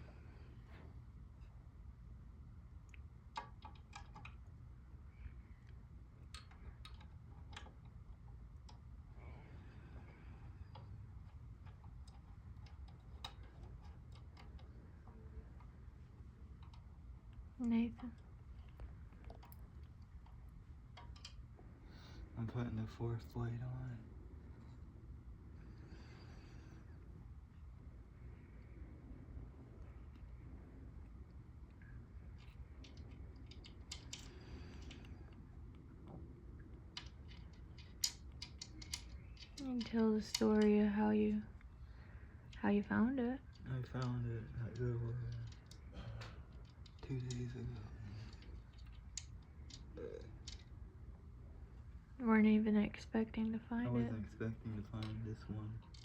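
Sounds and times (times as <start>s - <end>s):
low steady hum: 0.0s - 56.0s
small clicks of fan hardware: 2.8s - 52.0s, 53.4s - 56.0s.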